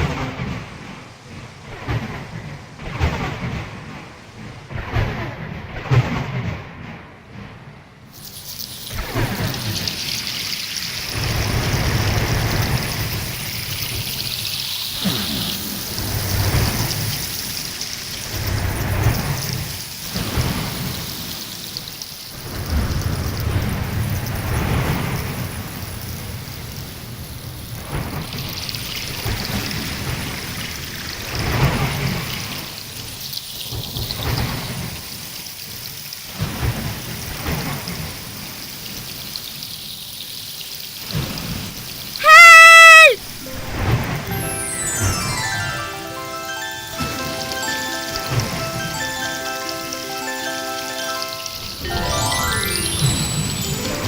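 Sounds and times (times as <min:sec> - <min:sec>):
rain hissing: 0:08.1 - 0:54.0.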